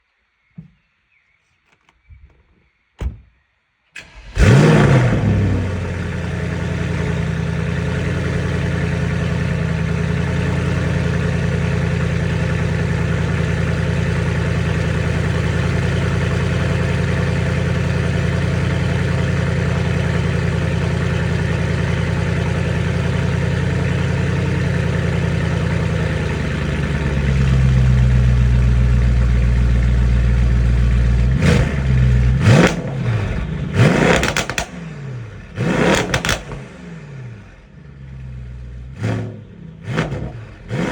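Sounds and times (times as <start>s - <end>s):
car engine starting and idling: 3.9s - 40.9s.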